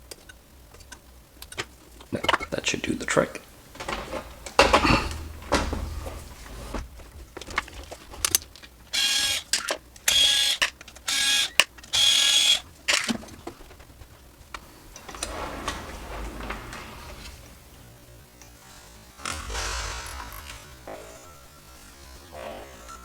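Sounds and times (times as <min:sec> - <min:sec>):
vacuum pump whine: 0:00.0 - 0:23.0.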